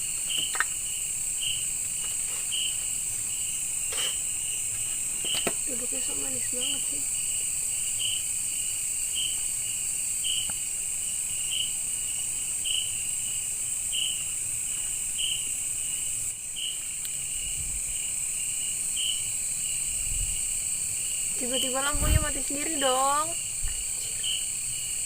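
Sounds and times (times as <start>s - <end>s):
insects trilling: 0.0s - 25.0s
lower pulsing insect call: 0.0s - 25.0s.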